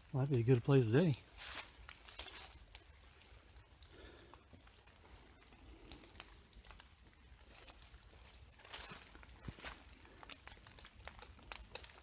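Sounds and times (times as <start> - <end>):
faint rustling and crinkling: 0.0 - 12.0.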